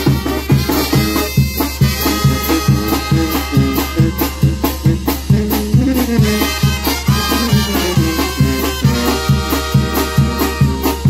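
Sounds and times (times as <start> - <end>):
sousaphone bass notes: 0.0 - 11.0
timbales bass drum and cymbals: 0.0 - 11.0
trumpet and horns: 0.0 - 11.0.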